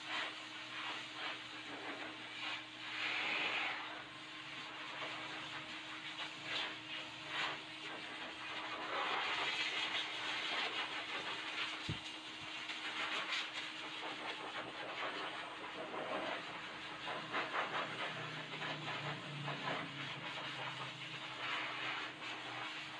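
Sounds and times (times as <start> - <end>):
blow dryer running: 0.0 - 22.9.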